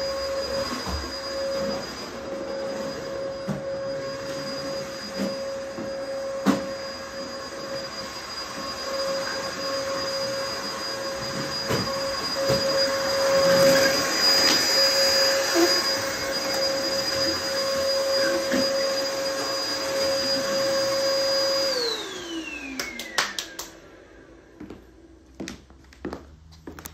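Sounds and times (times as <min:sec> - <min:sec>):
vacuum cleaner running: 0:00.0 - 0:26.2.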